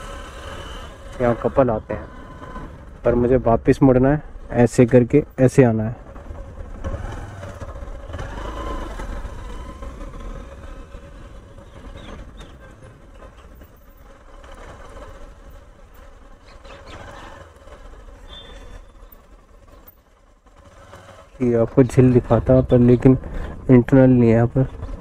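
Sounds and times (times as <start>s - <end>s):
motorcycle engine running: 0.0s - 25.0s
road noise: 0.0s - 25.0s.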